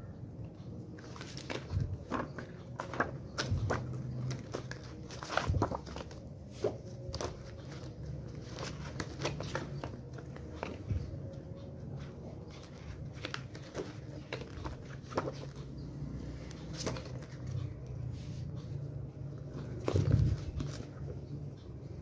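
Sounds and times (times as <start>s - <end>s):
pages rustling: 0.8s - 22.0s.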